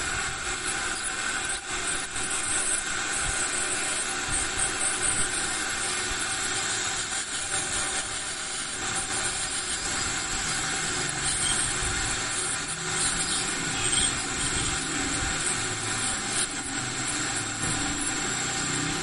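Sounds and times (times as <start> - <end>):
dental scaler and suction hiss: 0.0 - 19.0.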